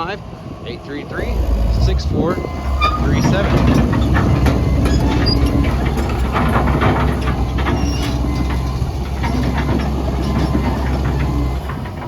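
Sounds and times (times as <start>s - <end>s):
excavator diesel engine running: 0.0s - 12.0s
metallic clicks and clanks: 2.0s - 12.0s.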